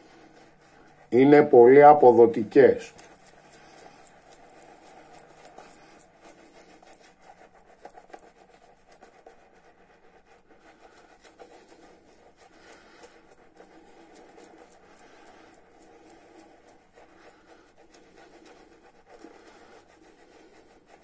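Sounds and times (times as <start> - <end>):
shaving brush bristle rustle: 0.0 - 21.0.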